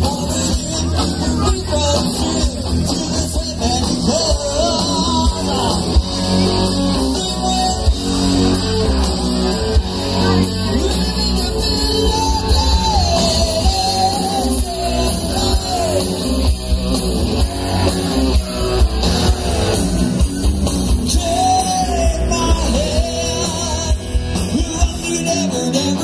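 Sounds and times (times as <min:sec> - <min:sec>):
drum kit: 0:00.0 - 0:26.0
electric guitars: 0:00.0 - 0:26.0
person singing: 0:00.0 - 0:26.0.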